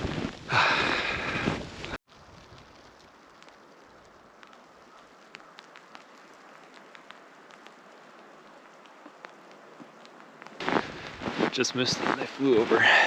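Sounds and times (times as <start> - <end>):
faint steady wind: 0.0 - 13.0
snow ticking: 0.0 - 13.0.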